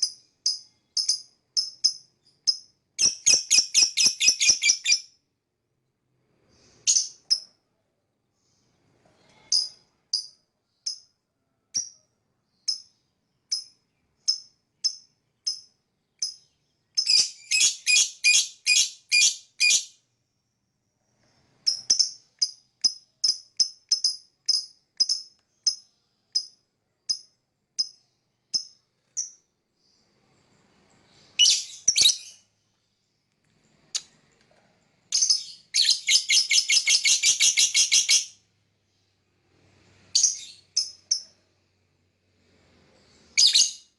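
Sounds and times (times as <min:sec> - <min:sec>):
lovebird chirping: 0:00.0 - 0:05.3, 0:06.5 - 0:07.6, 0:08.3 - 0:20.1, 0:21.1 - 0:34.3, 0:35.0 - 0:39.1, 0:39.9 - 0:41.6, 0:42.9 - 0:43.9.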